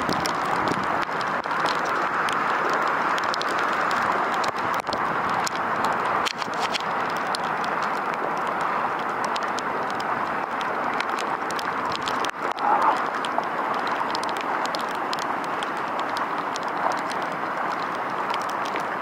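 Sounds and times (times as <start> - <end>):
rain falling: 0.0 - 19.0
raindrops ticking close by: 0.0 - 19.0.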